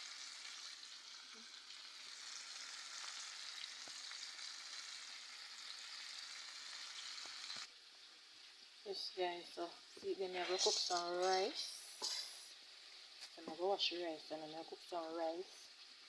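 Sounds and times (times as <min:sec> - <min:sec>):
chicken frying in hot oil: 0:00.0 - 0:16.0.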